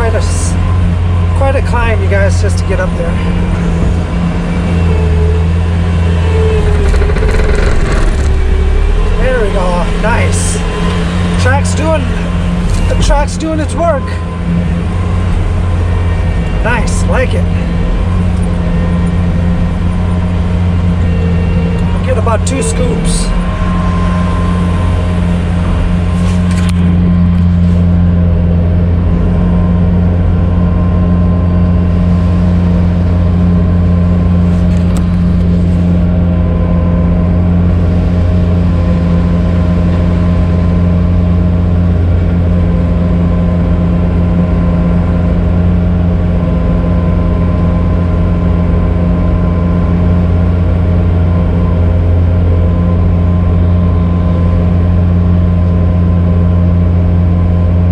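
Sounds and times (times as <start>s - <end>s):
loader engine running: 0.0s - 57.9s.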